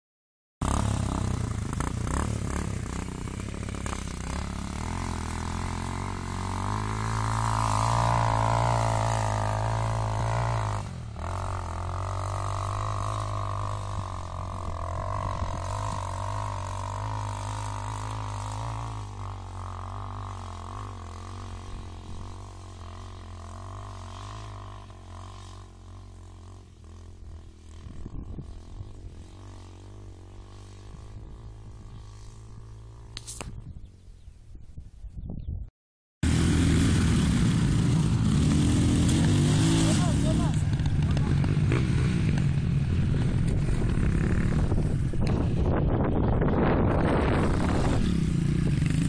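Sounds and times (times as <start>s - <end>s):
motorcycle engine revving hard: 0.6s - 33.2s, 36.2s - 49.0s.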